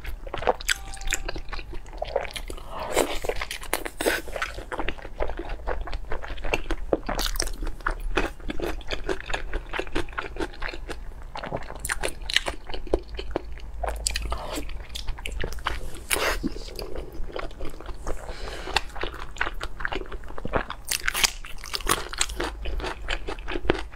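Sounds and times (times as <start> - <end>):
person chewing crunchy food: 0.0 - 23.9.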